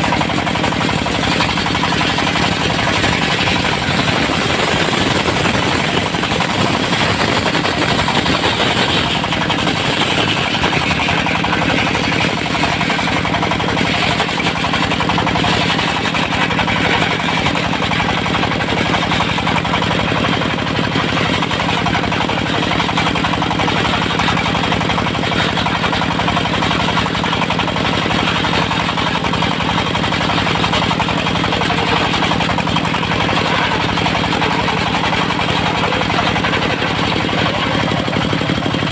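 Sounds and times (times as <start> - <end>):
rapid mechanical chatter: 0.0 - 38.9
saw blade ripping wood: 0.0 - 38.9
sawmill engine running: 0.0 - 38.9.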